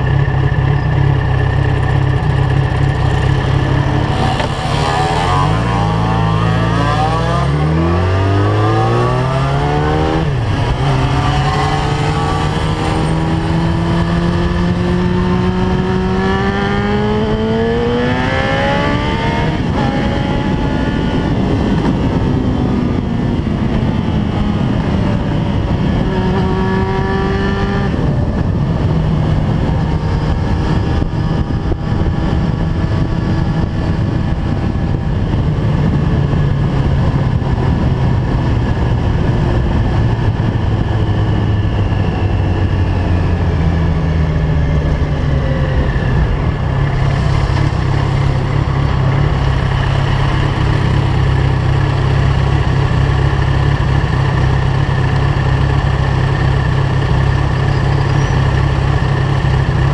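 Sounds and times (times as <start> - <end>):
heavy wind rush: 0.0 - 59.9
motorcycle engine revving: 0.0 - 59.9.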